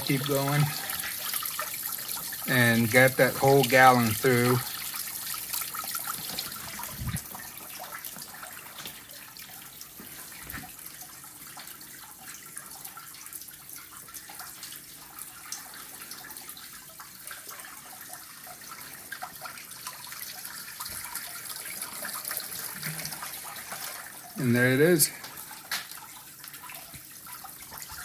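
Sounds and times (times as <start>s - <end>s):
water trickling and splashing: 0.0s - 28.0s.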